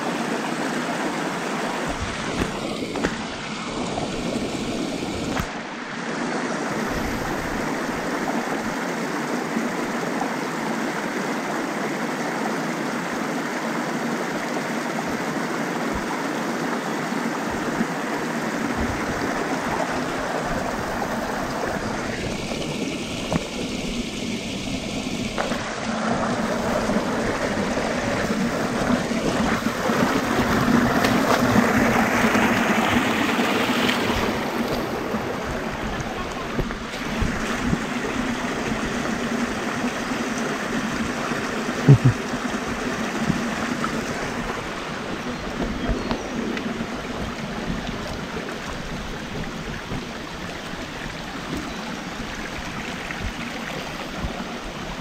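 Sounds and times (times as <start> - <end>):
creek water running: 0.0 - 55.0.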